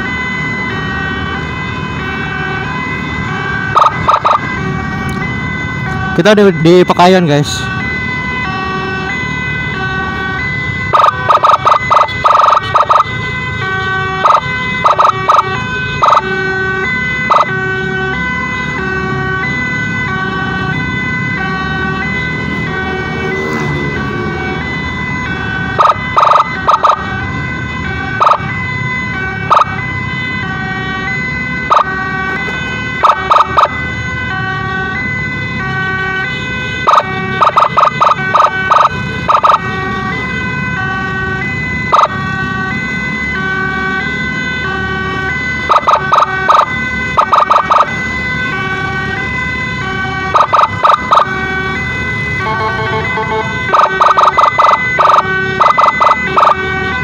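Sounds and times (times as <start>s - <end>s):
loud horn blasts: 0.0s - 57.0s
two-tone emergency siren: 0.0s - 57.0s.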